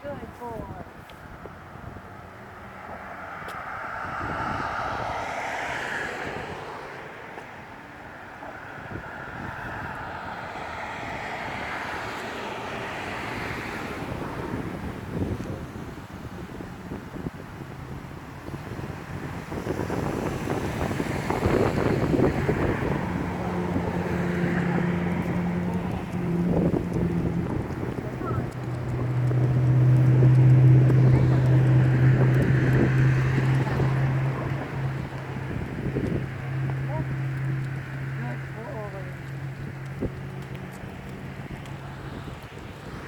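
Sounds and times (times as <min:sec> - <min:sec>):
vehicle passing: 0:00.0 - 0:43.0
wind buffeting microphone: 0:00.0 - 0:43.0.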